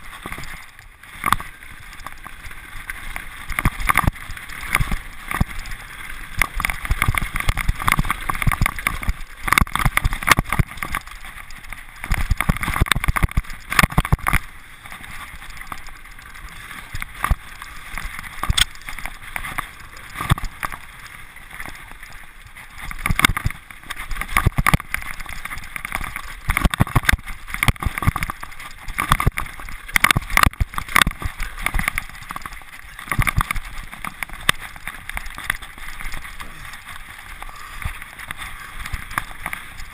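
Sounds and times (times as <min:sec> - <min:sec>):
tyres crunching over stones: 0:00.0 - 0:39.9.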